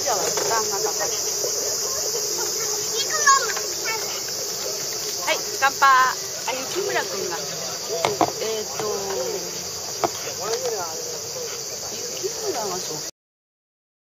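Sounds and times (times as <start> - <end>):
crowd chatter: 0.0 - 13.1
insects chirring: 0.0 - 13.1.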